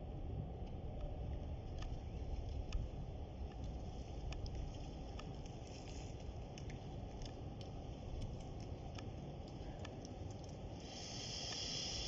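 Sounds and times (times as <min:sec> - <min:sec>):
faint light ticks: 0:00.6 - 0:12.0.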